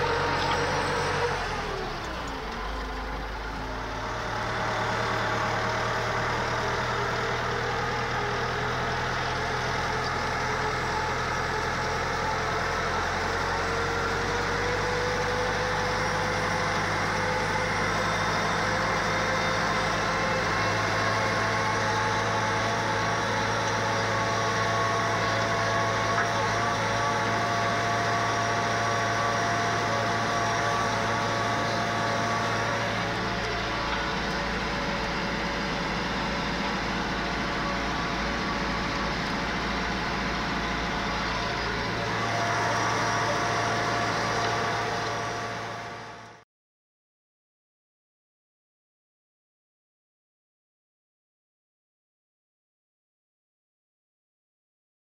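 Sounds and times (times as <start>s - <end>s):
tractor engine running under load: 0.0s - 46.4s.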